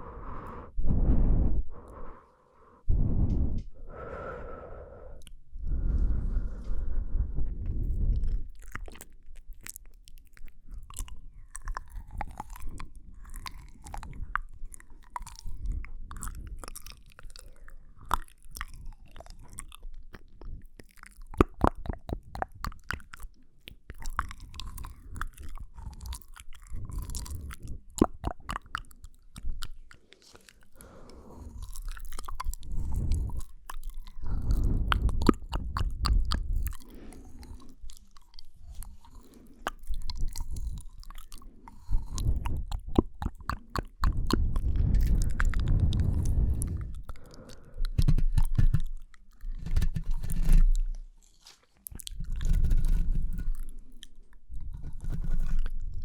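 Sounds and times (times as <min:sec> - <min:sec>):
wet mouth clicks and smacks: 0:07.6 - 0:56.0.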